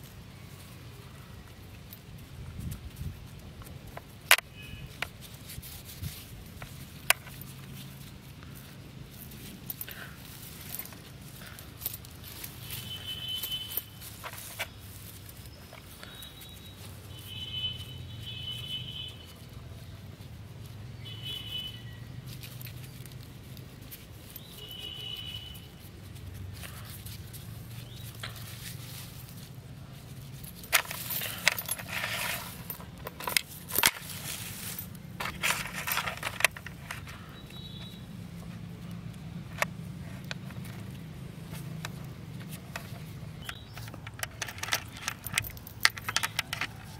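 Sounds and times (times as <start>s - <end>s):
chain clinking and scraping on metal: 0.0s - 46.9s.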